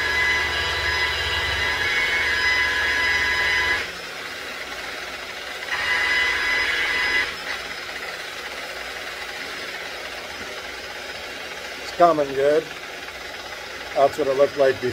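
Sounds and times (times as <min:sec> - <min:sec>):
buffing wheel whining: 0:00.0 - 0:14.9.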